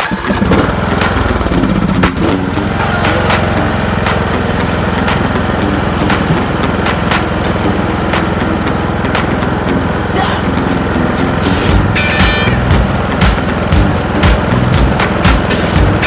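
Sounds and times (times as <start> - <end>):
grass cutter engine running: 0.0 - 16.0.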